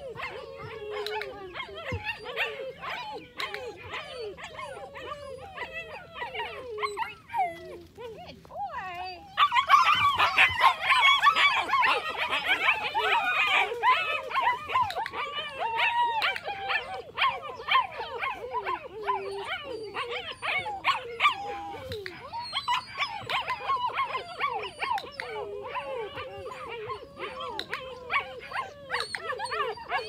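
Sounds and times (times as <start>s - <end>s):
puppy whining and yelping: 0.0s - 30.0s.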